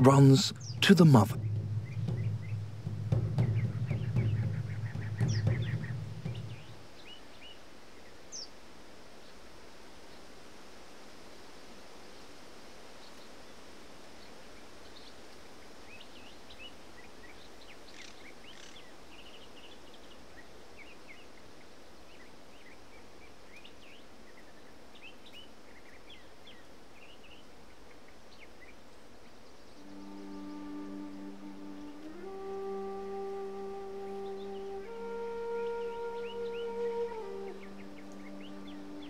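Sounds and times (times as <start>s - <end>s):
small birds chirping: 0.0s - 8.6s, 14.2s - 39.0s
outdoor background hiss: 0.0s - 39.0s.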